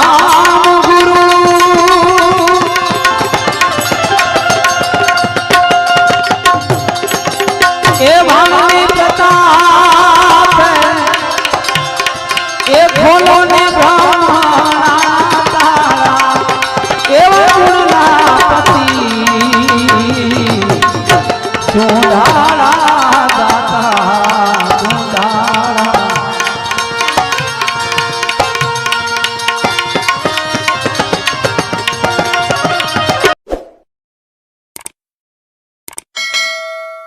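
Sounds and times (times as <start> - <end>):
harmonium chords: 0.0 - 33.3
tabla playing fast rhythm: 0.0 - 33.4.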